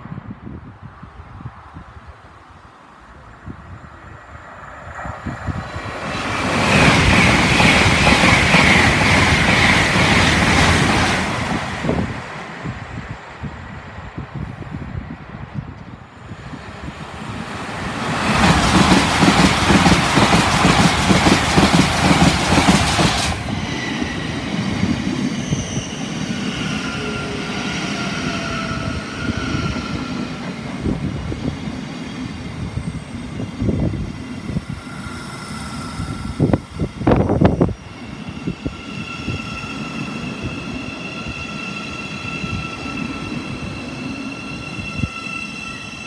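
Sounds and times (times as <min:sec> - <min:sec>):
train passing at speed: 0:00.0 - 0:46.0
train rumbling at platform: 0:00.0 - 0:46.0.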